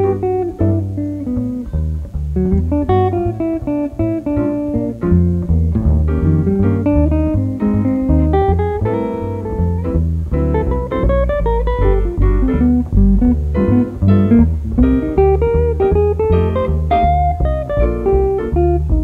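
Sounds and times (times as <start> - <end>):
jazz trio playing: 0.0 - 19.0.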